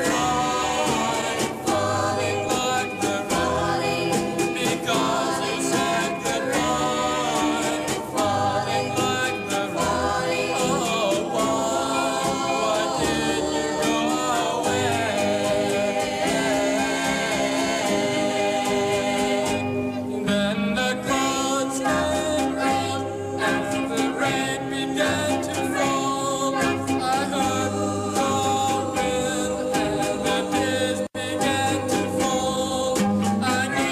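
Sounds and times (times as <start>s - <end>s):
vocal group singing in harmony: 0.0s - 33.9s.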